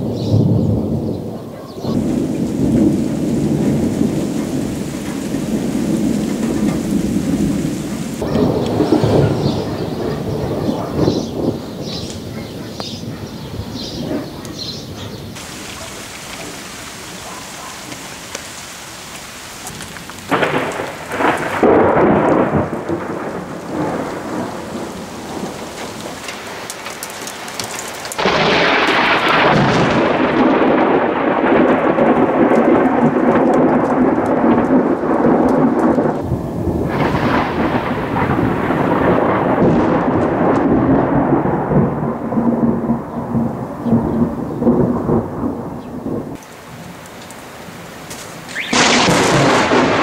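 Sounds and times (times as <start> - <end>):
rolling thunder: 0.0 - 46.4, 48.5 - 50.0
rain hissing: 1.9 - 12.6, 13.5 - 50.0.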